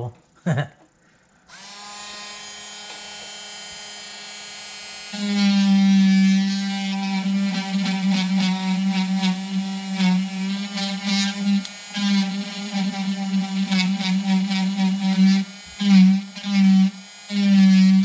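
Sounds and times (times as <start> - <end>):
rotary tool carving wood: 1.5 - 18.0.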